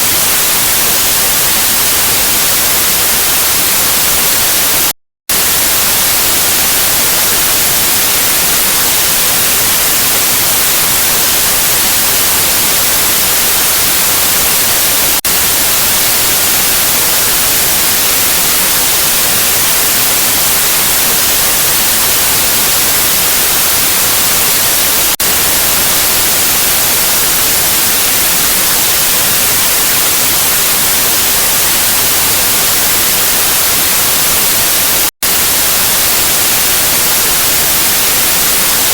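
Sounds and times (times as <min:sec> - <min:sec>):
static white noise hiss: 0:00.0 - 0:38.9.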